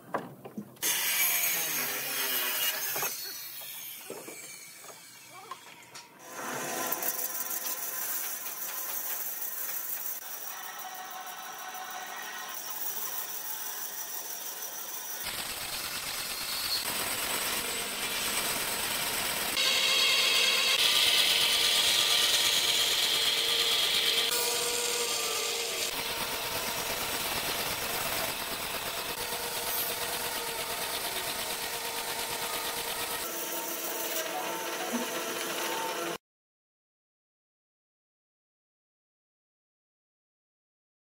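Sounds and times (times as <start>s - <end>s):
band saw cutting wood: 0.8s - 36.2s.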